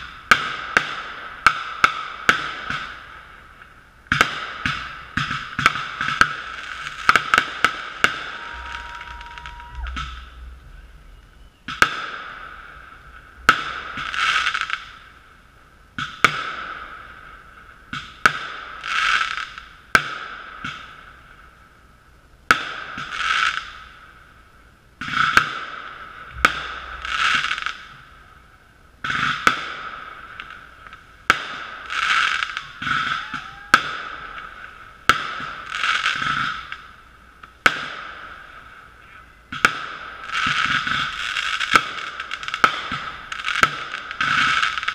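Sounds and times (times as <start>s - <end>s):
fireworks bangs: 0.0s - 21.3s, 22.5s - 24.2s, 25.0s - 44.9s
fireworks hissing crackle: 0.0s - 44.9s.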